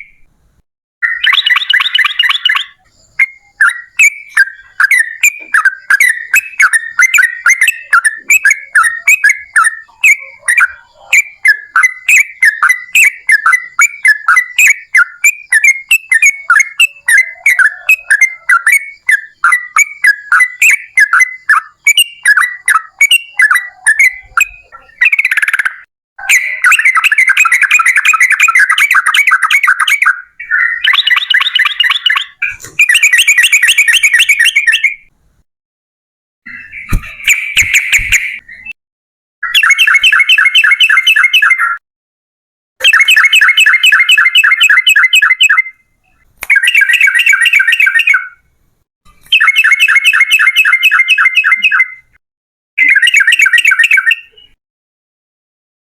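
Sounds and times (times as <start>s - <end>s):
bulbul chirping whistled notes: 1.0s - 35.1s, 36.5s - 38.8s, 42.8s - 45.8s, 46.4s - 48.4s, 49.2s - 52.2s, 52.8s - 54.6s
fast rattling bird trills: 1.0s - 35.1s, 36.5s - 38.7s, 39.4s - 41.8s, 42.8s - 45.7s, 46.5s - 48.4s, 49.3s - 52.1s.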